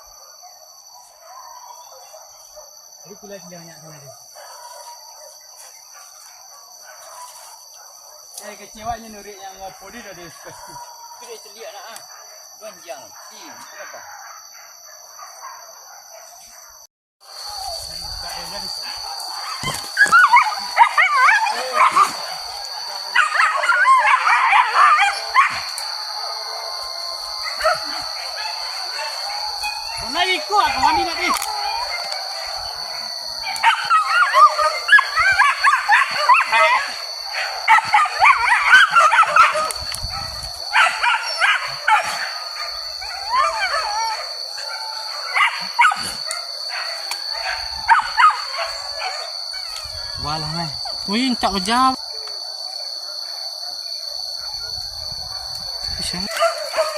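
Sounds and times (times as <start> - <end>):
dogs yelping and baying: 0.0 - 2.9, 4.1 - 8.3, 9.6 - 11.4, 12.1 - 56.9.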